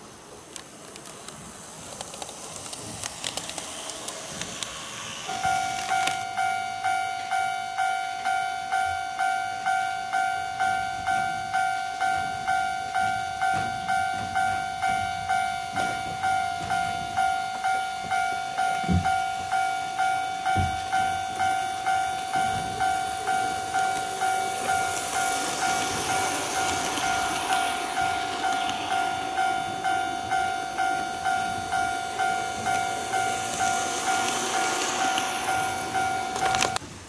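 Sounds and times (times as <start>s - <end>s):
level crossing warning bell dinging: 5.3s - 36.8s.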